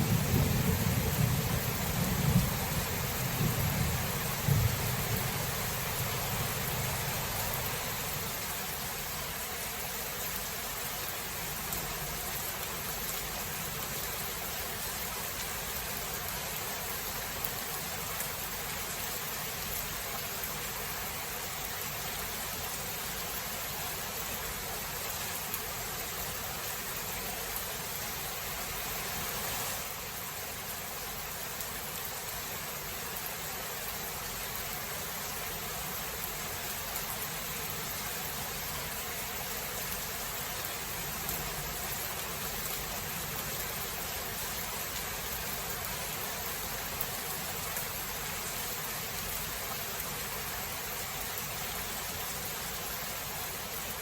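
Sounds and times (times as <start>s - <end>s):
heavy rain hiss: 0.0s - 54.0s.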